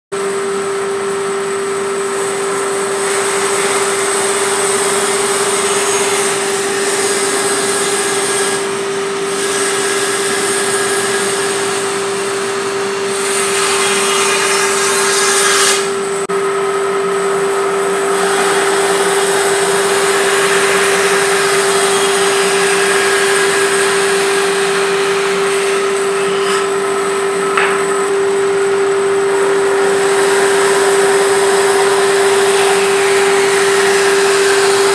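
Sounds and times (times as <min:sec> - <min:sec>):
bandsaw cutting wood: 0:02.0 - 0:16.3, 0:17.1 - 0:34.9.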